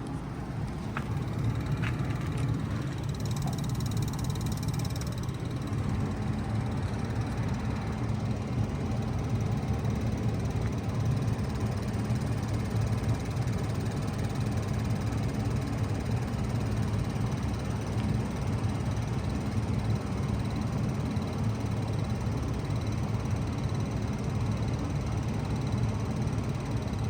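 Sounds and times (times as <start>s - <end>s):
fan noise: 0.0s - 27.0s
heat pump humming: 0.0s - 27.0s.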